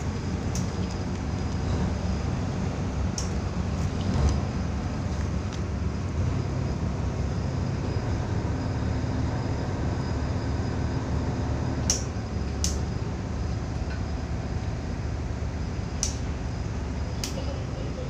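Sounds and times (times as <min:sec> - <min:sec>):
boat diesel engine rumbling: 0:00.0 - 0:18.0.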